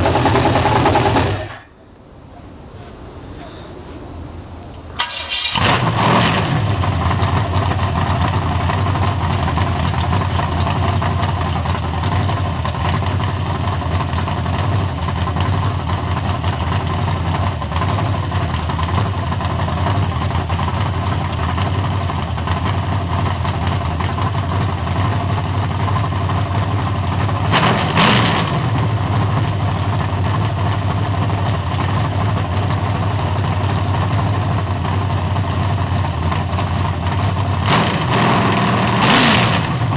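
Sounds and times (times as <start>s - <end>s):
car engine idling: 0.0s - 2.4s, 4.2s - 39.9s.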